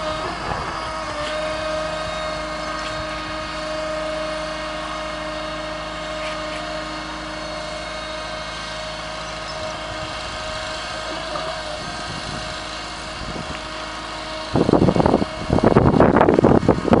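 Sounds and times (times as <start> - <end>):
loud rough gusting noise: 0.0 - 17.0
vehicle engine humming: 0.0 - 17.0.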